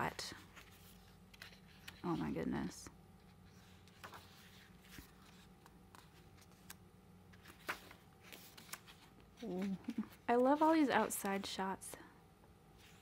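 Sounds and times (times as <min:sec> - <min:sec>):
paper pages rustling: 0:00.1 - 0:11.6.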